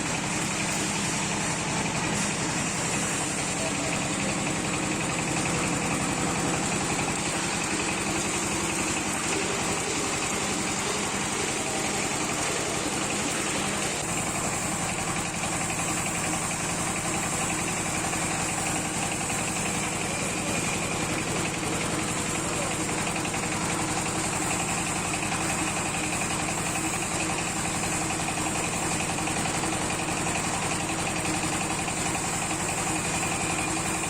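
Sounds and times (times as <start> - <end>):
oil press machine pulsing: 0.0 - 34.0.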